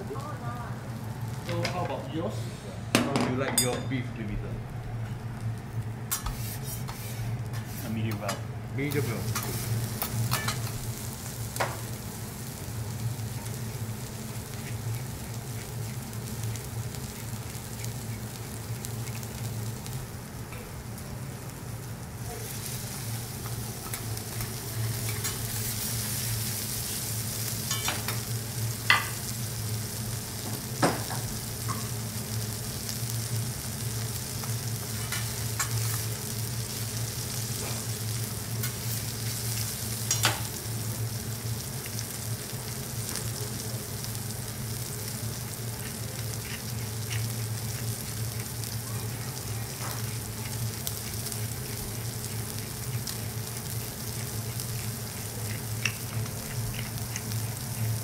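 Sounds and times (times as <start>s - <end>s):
steady low hum: 0.0s - 58.0s
beef sizzling on a griddle: 5.0s - 58.0s.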